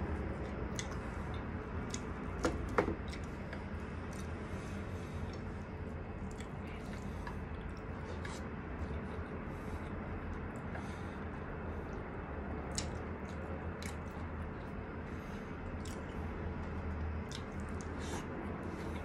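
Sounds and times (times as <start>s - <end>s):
person chewing with wet squishes: 0.0s - 19.0s
steady low hum: 0.0s - 19.0s.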